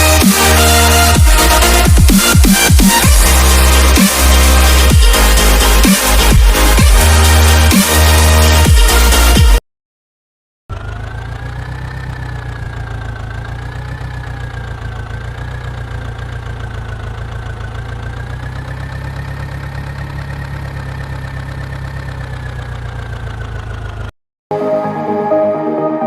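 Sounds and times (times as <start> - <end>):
tractor engine idling: 0.0 - 9.3, 10.7 - 24.1.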